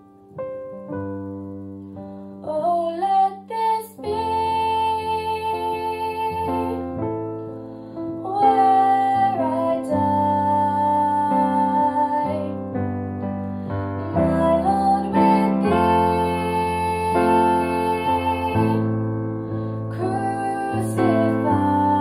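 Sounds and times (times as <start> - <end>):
piano chords: 0.0 - 22.0
girl singing: 2.4 - 7.2, 8.1 - 12.8, 13.8 - 22.0.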